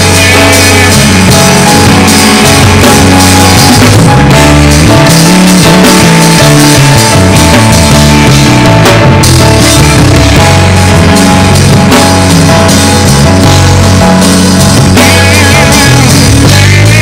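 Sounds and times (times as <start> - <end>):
drum kit: 0.0 - 17.0
worship band music: 0.0 - 17.0.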